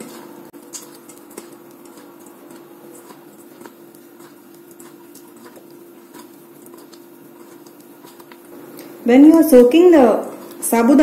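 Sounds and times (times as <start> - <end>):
hand squishing soft mixture: 0.0 - 11.0
steady hum: 0.0 - 11.0.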